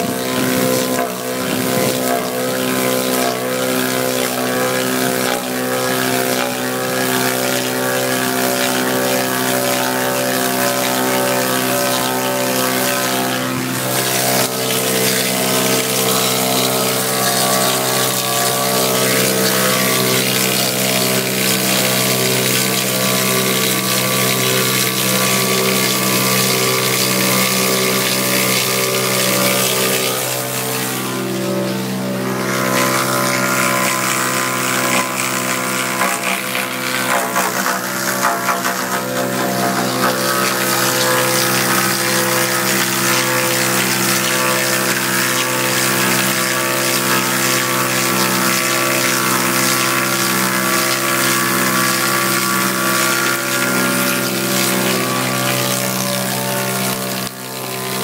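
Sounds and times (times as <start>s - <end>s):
lathe machine drone: 0.0s - 58.0s.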